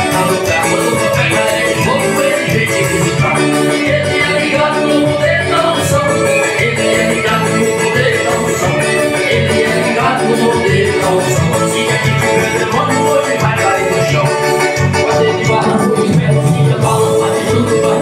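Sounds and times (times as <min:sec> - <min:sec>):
backing music with steady beat: 0:00.0 - 0:18.0
man singing into a microphone: 0:00.0 - 0:18.0.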